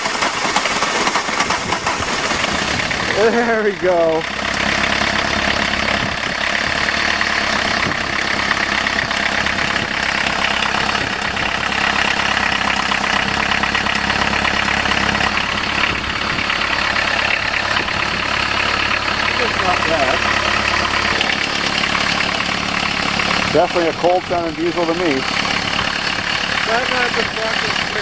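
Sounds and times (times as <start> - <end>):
diesel engine idling clatter: 0.0 - 28.0.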